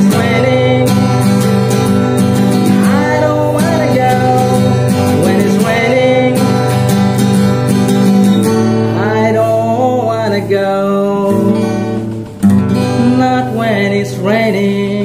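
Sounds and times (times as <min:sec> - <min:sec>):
man singing: 0:00.0 - 0:15.0
strummed acoustic guitar: 0:00.0 - 0:15.0.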